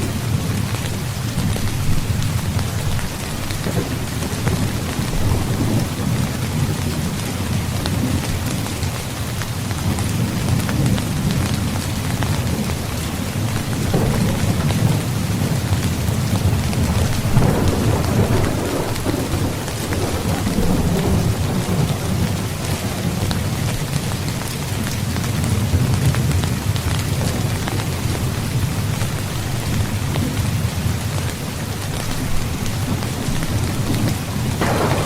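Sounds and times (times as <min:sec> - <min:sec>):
thunder rumbling: 0:00.0 - 0:08.9, 0:09.7 - 0:31.4, 0:32.2 - 0:35.0
heavy rain: 0:00.0 - 0:35.0.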